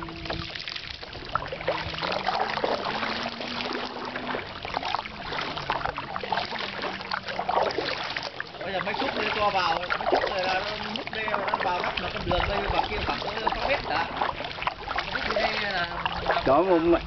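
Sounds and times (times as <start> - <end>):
kayak paddles splashing in water: 0.0 - 17.0
water dribbling off blades: 0.0 - 17.0.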